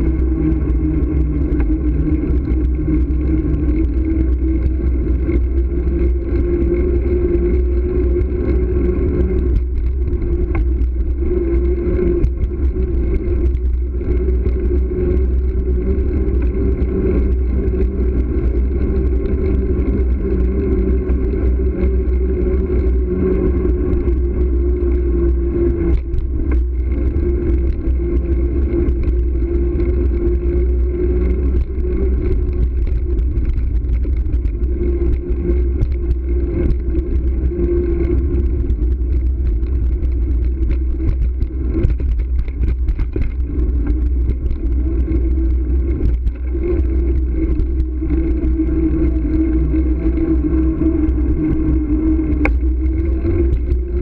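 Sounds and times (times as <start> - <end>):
constant hum: 0.0 - 54.0
low rumble of bicycle riding: 0.0 - 54.0.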